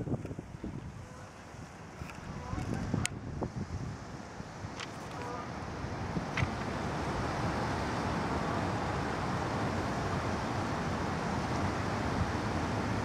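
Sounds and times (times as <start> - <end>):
outdoor rumbling hiss: 0.0 - 13.0.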